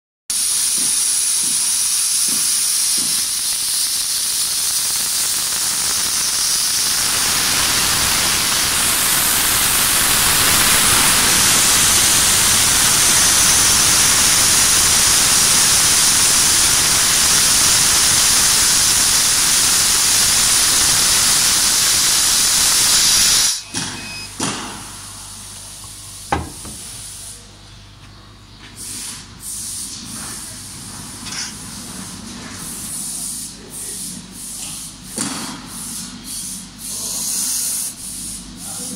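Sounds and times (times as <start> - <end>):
air assist hissing: 0.3 - 27.6, 28.8 - 30.6, 35.7 - 38.9.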